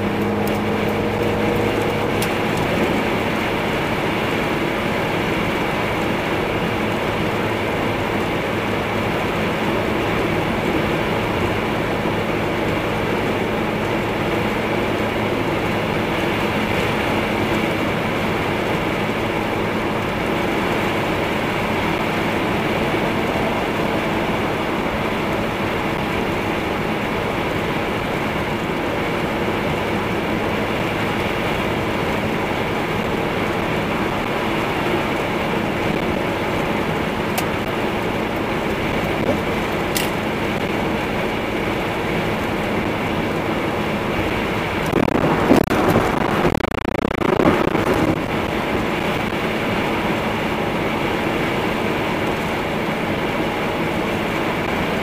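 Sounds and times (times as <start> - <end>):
car engine drone: 0.0 - 55.0
road noise: 0.0 - 55.0.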